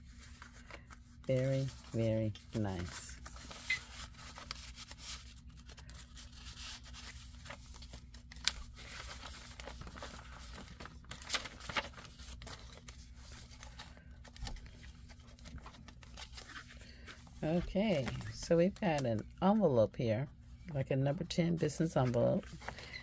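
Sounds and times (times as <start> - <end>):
paper rustling and crinkling: 0.0 - 19.4, 21.5 - 23.0.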